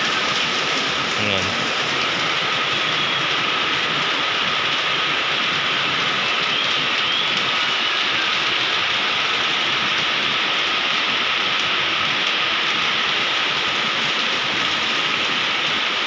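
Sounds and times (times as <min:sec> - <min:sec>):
heavy rain on a paved street: 0:00.0 - 0:16.0.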